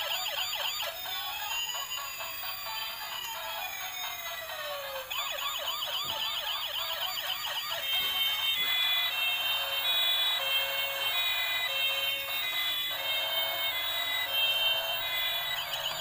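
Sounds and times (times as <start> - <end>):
toy police car siren: 0.0 - 16.0.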